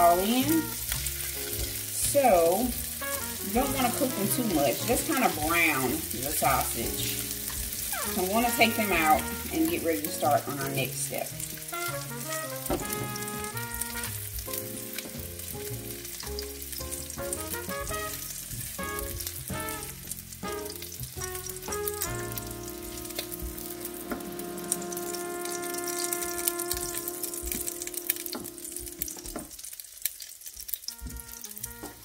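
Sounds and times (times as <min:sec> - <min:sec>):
light background music: 0:00.0 - 0:29.5, 0:30.9 - 0:32.0
food sizzling in hot oil: 0:00.0 - 0:32.0.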